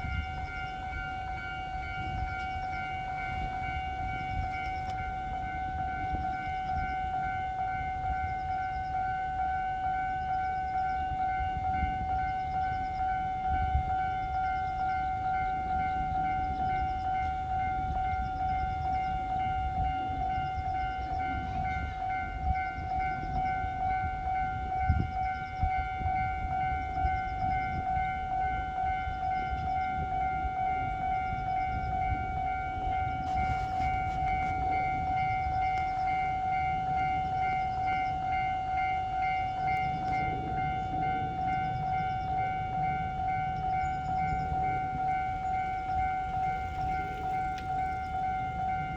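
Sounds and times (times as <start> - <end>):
level crossing alarm ringing: 0.0 - 48.9.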